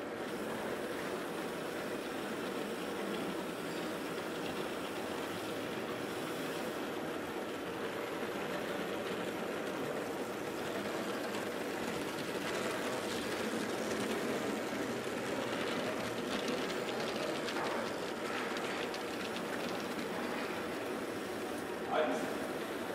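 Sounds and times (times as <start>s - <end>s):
toy trains running: 0.0s - 22.9s
electric toy crane working: 2.3s - 22.5s.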